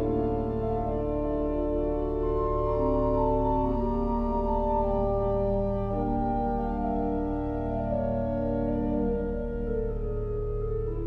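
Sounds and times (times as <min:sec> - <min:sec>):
pipe organ chords: 0:00.0 - 0:11.0.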